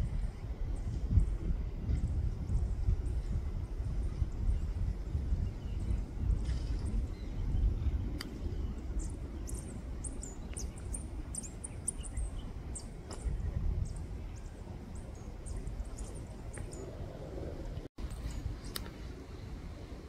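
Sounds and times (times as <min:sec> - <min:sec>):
steady low rumble: 0:00.0 - 0:20.0
birds chirping: 0:02.0 - 0:19.1.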